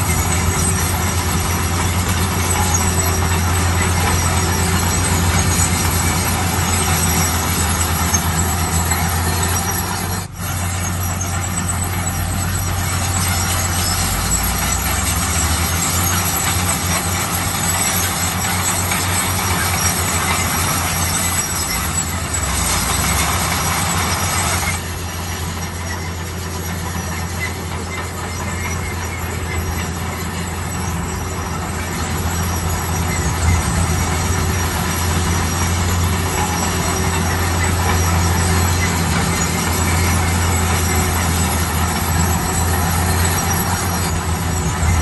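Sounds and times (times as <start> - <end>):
bulldozer diesel engine droning: 0.0 - 45.0.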